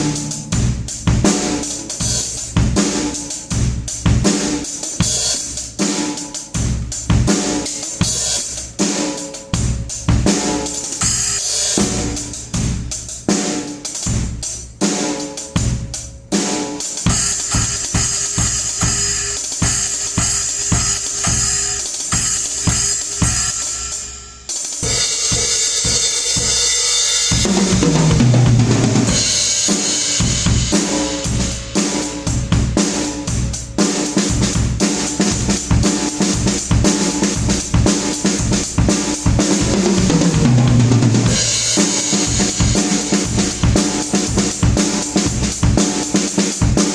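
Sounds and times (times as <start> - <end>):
rolling low drum pattern: 0.0 - 21.3, 24.8 - 46.9
drum kit groove: 0.0 - 46.9.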